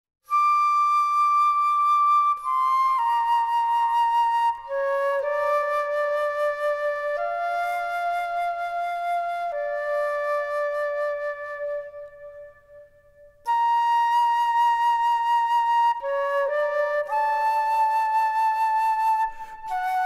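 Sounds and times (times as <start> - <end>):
solo flute long notes: 0.2 - 20.0.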